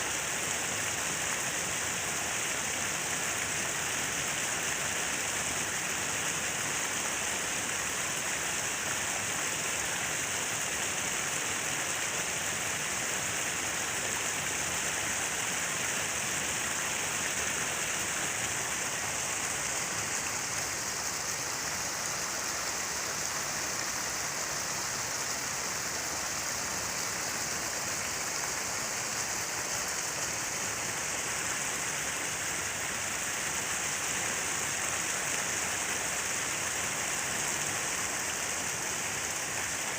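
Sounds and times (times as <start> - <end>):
falling water splashing: 0.0 - 39.9.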